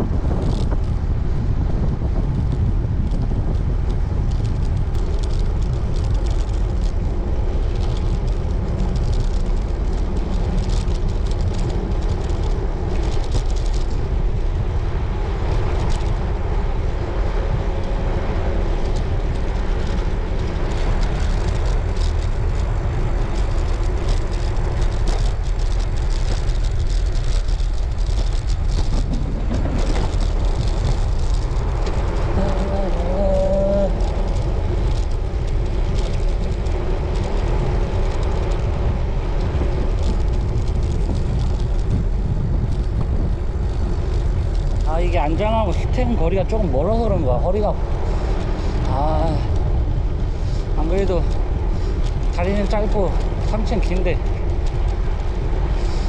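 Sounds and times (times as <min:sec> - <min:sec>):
bicycle tyres rolling: 0:00.0 - 0:56.0
wind rushing over microphone: 0:00.0 - 0:56.0.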